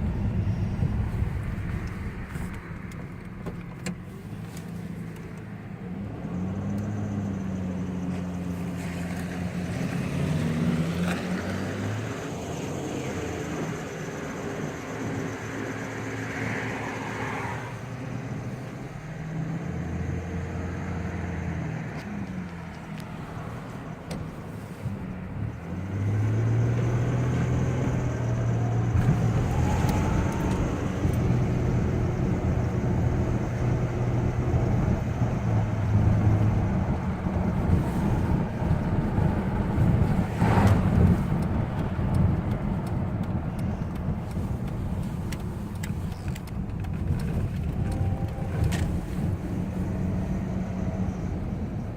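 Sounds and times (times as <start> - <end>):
truck engine accelerating: 0.0 - 51.9.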